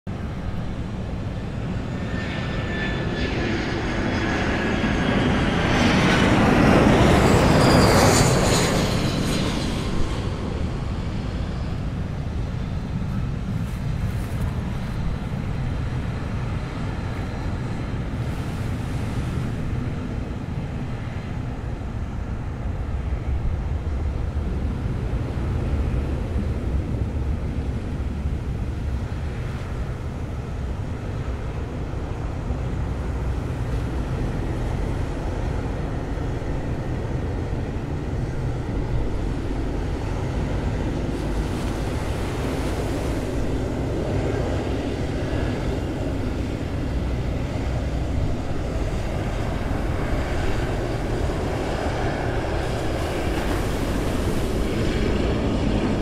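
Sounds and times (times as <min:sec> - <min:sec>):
jet engines whine and rumble: 0:00.0 - 0:56.0.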